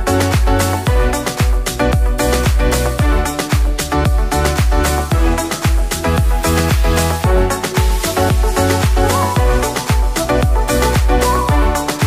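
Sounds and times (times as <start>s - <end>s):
electronic dance music kick drum: 0.0s - 12.0s.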